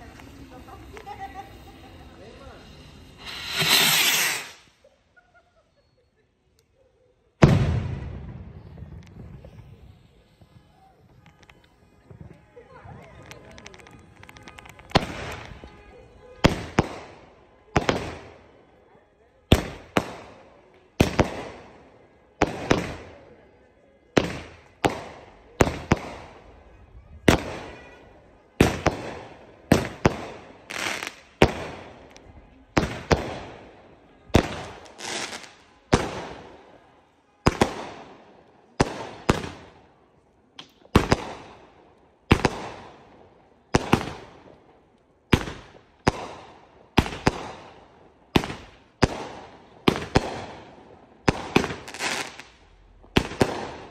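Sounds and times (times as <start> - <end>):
fireworks bangs: 0.0 - 4.8, 7.4 - 18.6, 19.5 - 23.2, 24.1 - 40.0, 40.6 - 44.7, 45.3 - 53.9.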